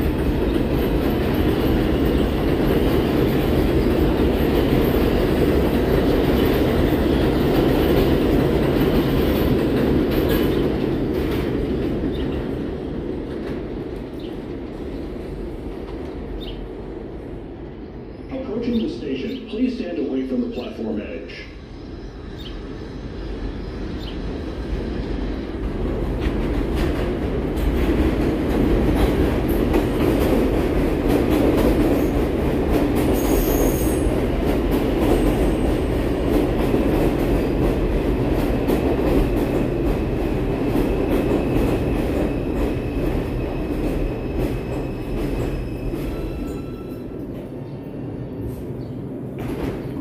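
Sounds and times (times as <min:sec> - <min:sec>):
train wheels on rails: 0:00.0 - 0:17.8, 0:21.3 - 0:50.0.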